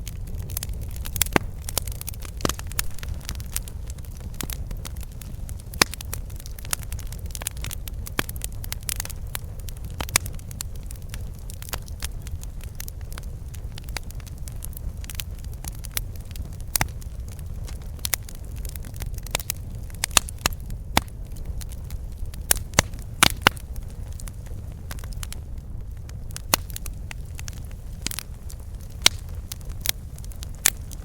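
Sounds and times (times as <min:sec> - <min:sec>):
campfire crackling and popping: 0:00.0 - 0:31.0
steady low rumble: 0:00.0 - 0:31.0.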